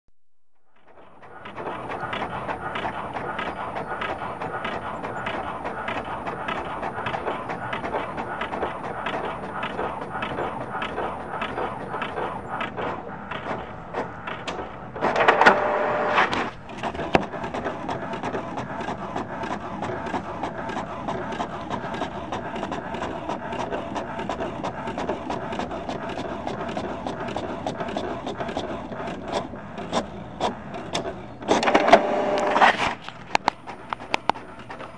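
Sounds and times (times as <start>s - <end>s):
printer clattering: 0.8s - 34.9s.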